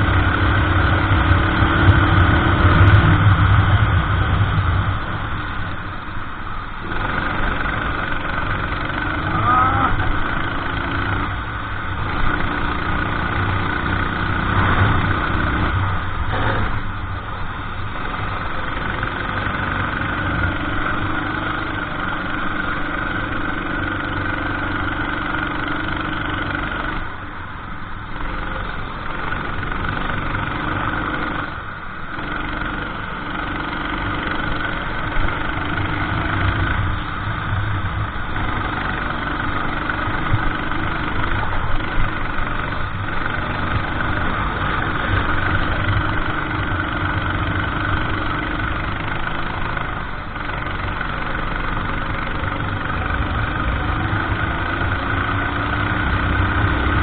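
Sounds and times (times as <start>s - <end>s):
racing kart engine running: 0.0s - 57.0s.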